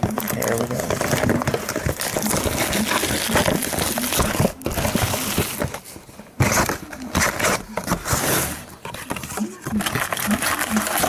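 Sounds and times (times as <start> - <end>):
plastic wrapping crinkling: 0.0 - 11.0
plastic wrapping ripping: 0.0 - 11.0.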